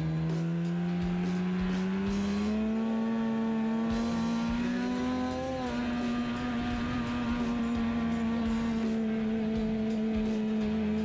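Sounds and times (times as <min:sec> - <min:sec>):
snowmobile engine accelerating: 0:00.0 - 0:11.0.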